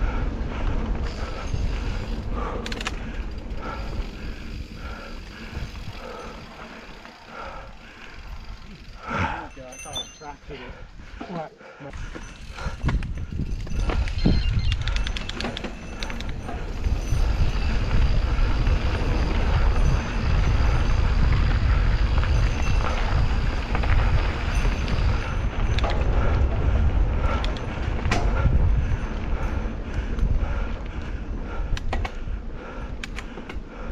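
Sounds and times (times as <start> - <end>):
bike rattling over bumps: 0.0 - 11.3, 11.9 - 33.9
wind and tyres rumbling: 0.0 - 33.9.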